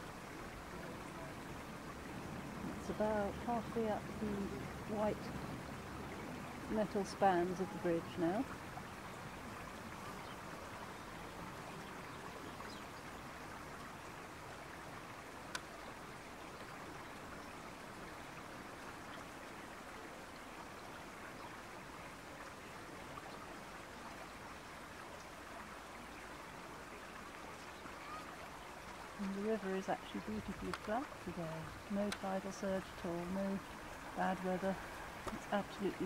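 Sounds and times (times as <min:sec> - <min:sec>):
fast-flowing river water: 0:00.0 - 0:36.0.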